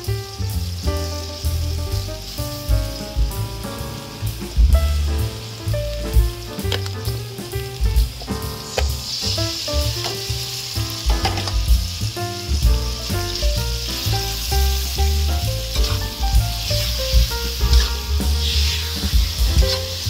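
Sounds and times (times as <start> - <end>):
background music with bass: 0.0 - 20.0
meat sizzling in hot oil: 0.0 - 20.0.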